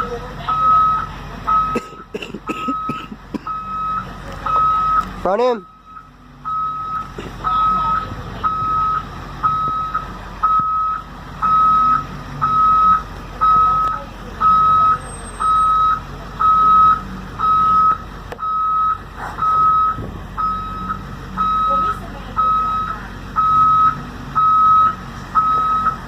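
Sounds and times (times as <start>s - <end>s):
bus engine running: 0.0s - 26.0s
reverse alarm beeping: 0.5s - 26.0s.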